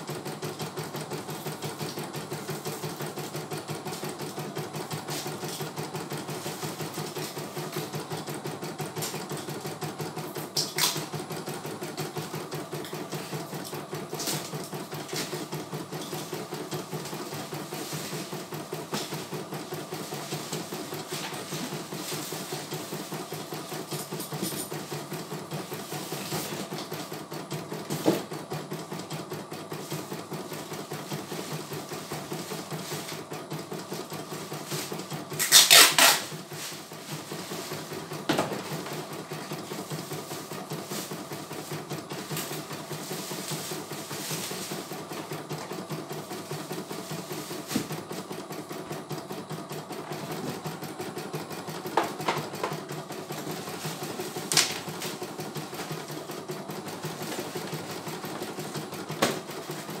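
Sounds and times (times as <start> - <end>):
embroidery machine stitching: 0.0 - 60.0.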